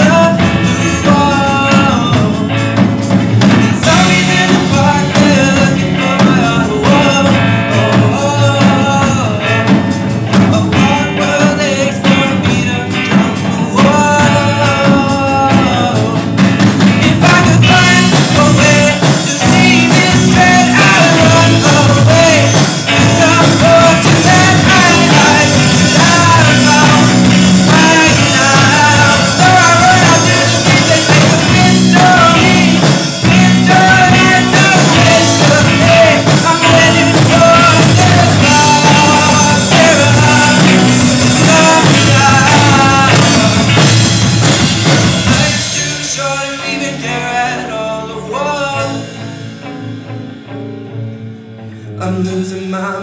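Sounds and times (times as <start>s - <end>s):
pop-rock music: 0.0s - 53.0s.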